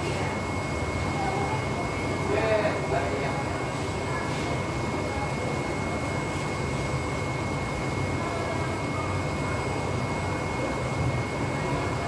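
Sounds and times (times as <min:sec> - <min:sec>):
printer mechanical hum and whir: 0:00.0 - 0:12.0.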